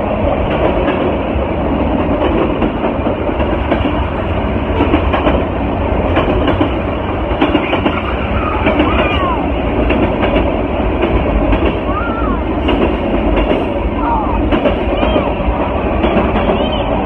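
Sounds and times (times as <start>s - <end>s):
freight cars rumbling on rails: 0.0s - 17.0s.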